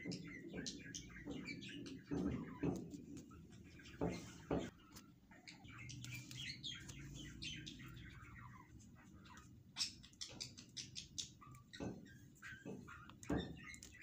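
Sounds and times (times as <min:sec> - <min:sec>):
small birds chirping faintly: 0:00.0 - 0:14.0.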